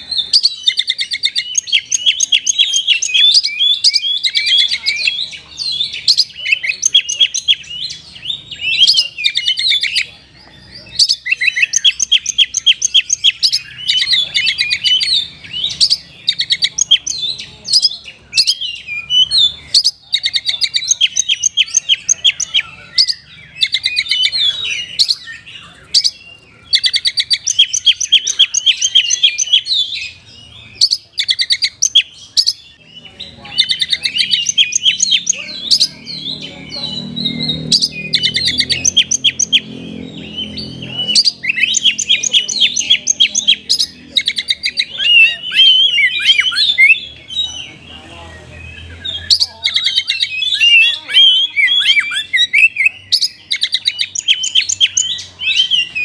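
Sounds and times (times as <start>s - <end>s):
bird singing chirps and trills: 0.0s - 56.0s.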